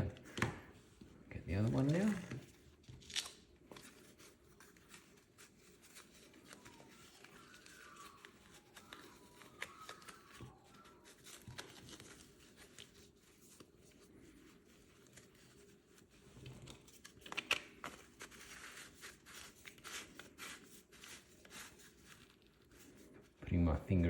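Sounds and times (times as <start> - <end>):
soft rustling of handling: 0.0 - 24.0.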